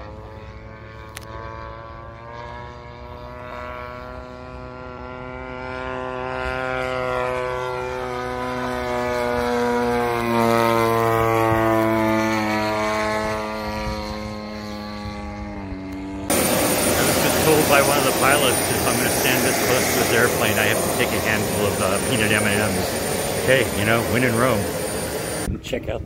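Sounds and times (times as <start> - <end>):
model airplane engine flying past: 0.0 - 25.6.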